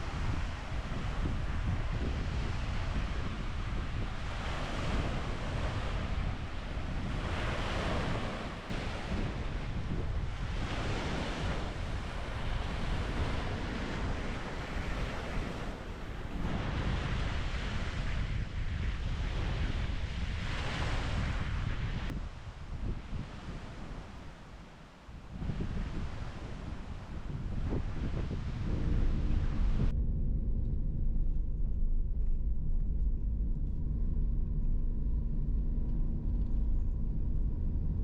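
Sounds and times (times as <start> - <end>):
wind on microphone: 0.0 - 38.0.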